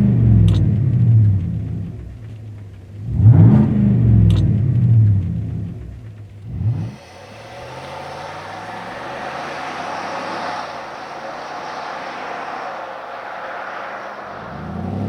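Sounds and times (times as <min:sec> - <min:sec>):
engine exhaust revving: 0:00.0 - 0:15.0
road and wind noise: 0:00.0 - 0:15.0.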